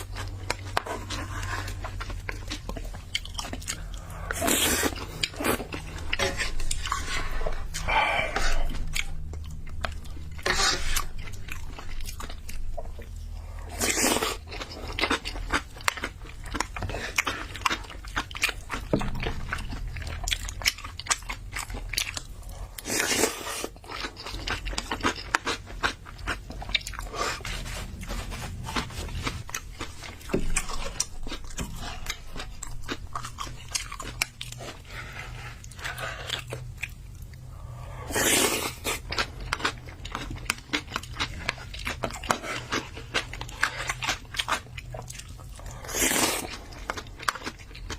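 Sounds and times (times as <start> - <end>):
person chewing and biting: 0.0 - 37.4, 38.1 - 47.9.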